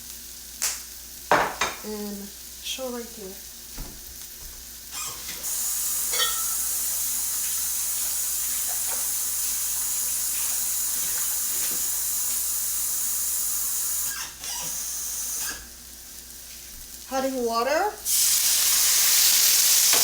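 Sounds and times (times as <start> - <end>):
kitchen tap running: 1.3 - 2.1, 3.6 - 15.9, 16.7 - 20.0.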